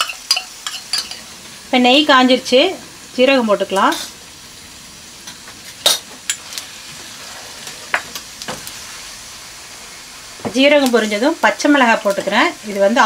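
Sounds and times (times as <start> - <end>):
seeds sizzling in hot oil: 0.0 - 13.0.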